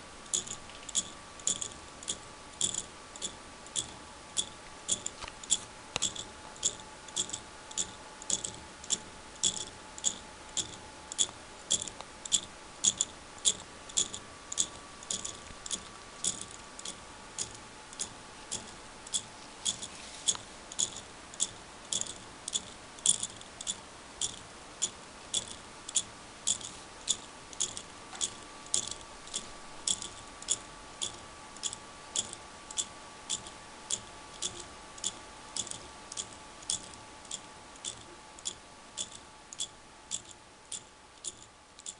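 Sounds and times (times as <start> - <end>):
plastic clock ticking: 0.3 - 41.9.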